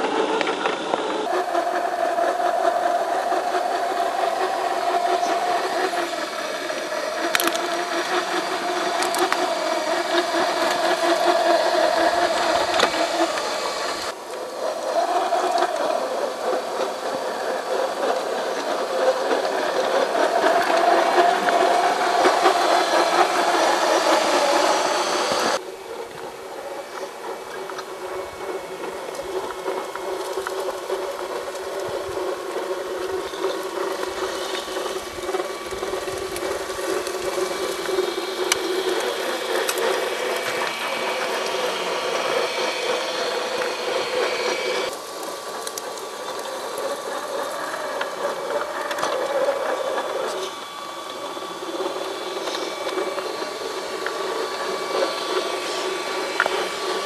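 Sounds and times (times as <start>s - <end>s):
rattling crunching noise: 0.0s - 57.0s
small electric motor whining: 0.0s - 57.0s.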